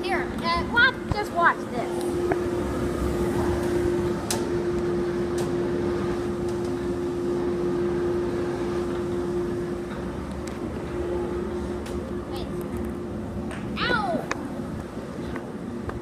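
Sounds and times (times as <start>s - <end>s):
blower fan humming: 0.0s - 16.0s.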